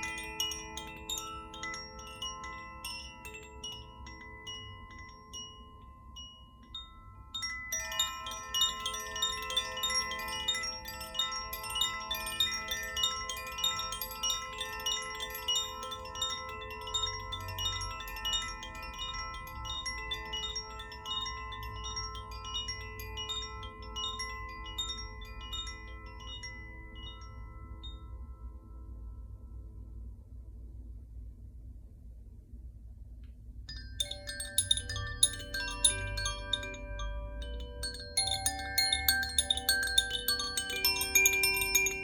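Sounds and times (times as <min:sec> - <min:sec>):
wind chime ringing: 0:00.0 - 0:29.4, 0:33.7 - 0:42.0.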